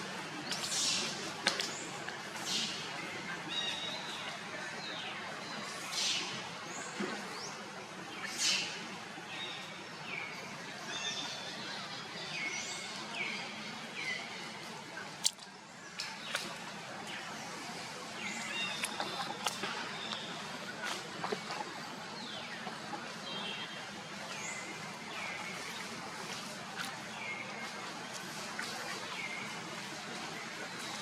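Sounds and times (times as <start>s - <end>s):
outdoor background: 0.0s - 31.0s.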